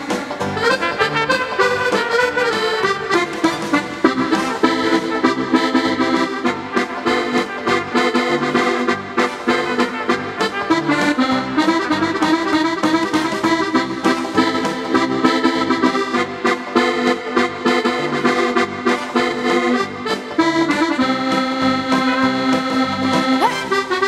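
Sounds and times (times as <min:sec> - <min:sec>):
button accordion lively tune: 0:00.0 - 0:24.0.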